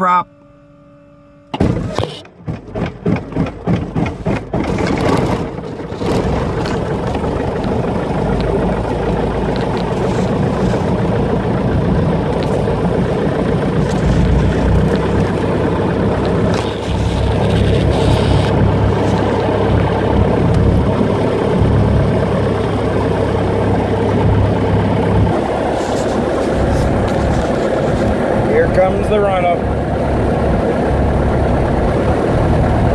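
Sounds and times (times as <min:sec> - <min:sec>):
aircraft engine starting and idling: 0:00.0 - 0:32.9.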